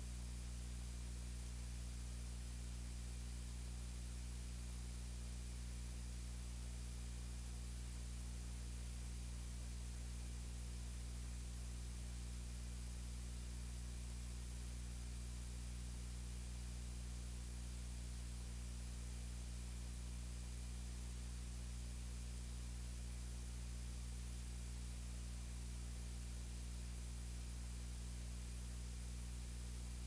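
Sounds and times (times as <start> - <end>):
constant hiss: 0.0 - 30.0
low electrical hum: 0.0 - 30.0.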